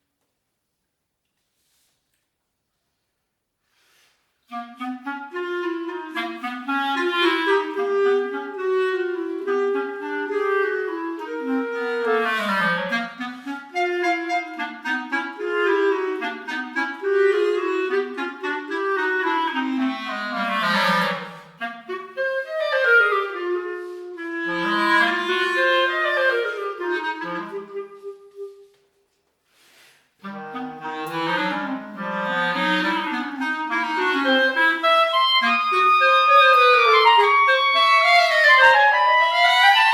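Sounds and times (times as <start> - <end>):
clarinet music: 4.4 - 39.9.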